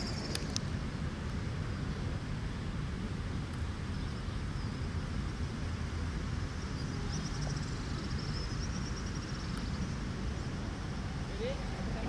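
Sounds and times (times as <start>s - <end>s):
steady low outdoor rumble: 0.0s - 12.0s.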